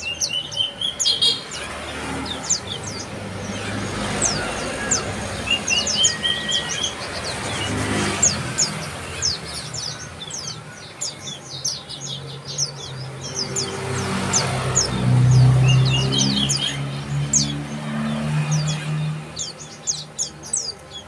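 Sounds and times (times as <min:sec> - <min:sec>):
birds chipping: 0:00.0 - 0:21.0.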